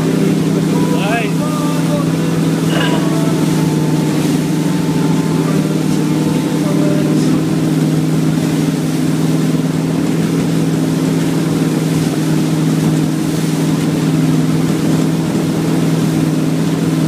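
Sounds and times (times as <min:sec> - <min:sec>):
boat engine drone: 0:00.0 - 0:17.0
water rushing in boat wake: 0:00.0 - 0:17.0.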